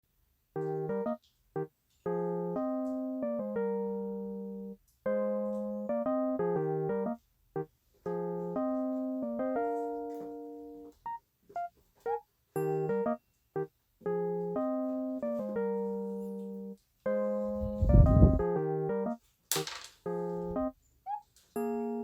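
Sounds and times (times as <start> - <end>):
electric piano tune: 0.5 - 19.3, 20.0 - 22.0.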